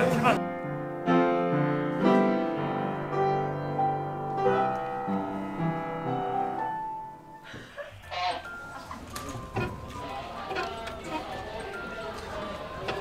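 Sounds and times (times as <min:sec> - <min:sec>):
upright piano melody: 0:00.0 - 0:13.0.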